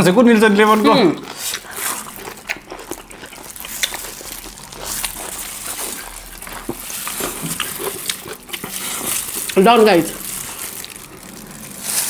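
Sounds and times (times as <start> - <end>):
chewing and crunching snack: 0.0 - 12.0.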